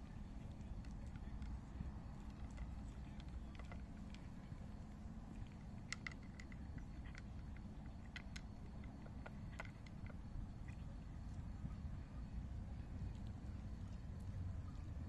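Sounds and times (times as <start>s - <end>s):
cat chewing dry kibble: 0.0s - 15.0s.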